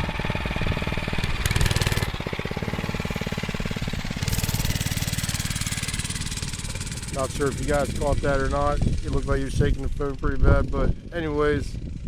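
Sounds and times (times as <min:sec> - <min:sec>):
small motorbike engine running: 0:00.0 - 0:12.0.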